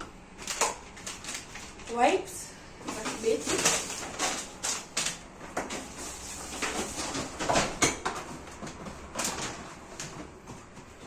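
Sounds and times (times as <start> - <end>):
packaging rustling: 0.4 - 2.0, 2.8 - 11.0.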